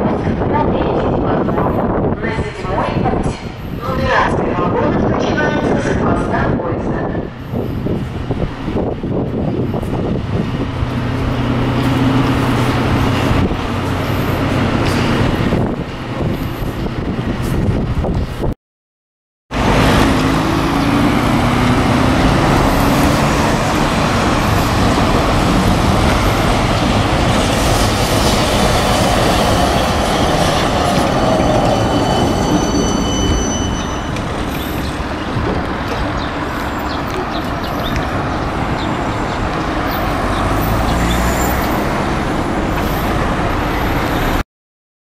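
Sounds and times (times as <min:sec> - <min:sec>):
tram wheels rumbling on rails: 0:00.0 - 0:18.6, 0:19.5 - 0:44.4.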